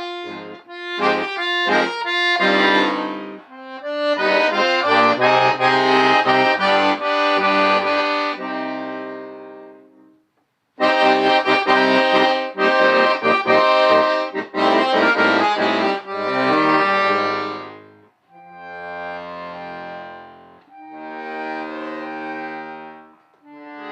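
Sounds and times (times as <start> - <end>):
accordion playing chords: 0.0 - 10.2, 10.8 - 23.9.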